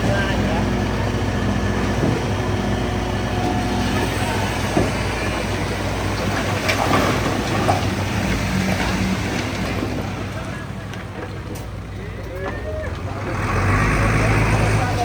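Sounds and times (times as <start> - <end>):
heavy machinery diesel hum: 0.0 - 15.0.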